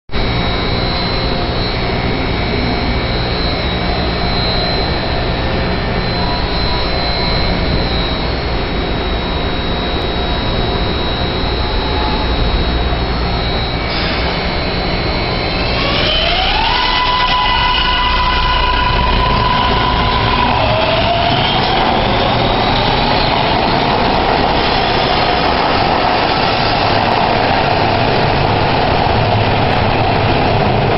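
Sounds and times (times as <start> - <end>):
high-pitched train whine: 0.1 - 30.9
train rumbling: 0.2 - 30.9.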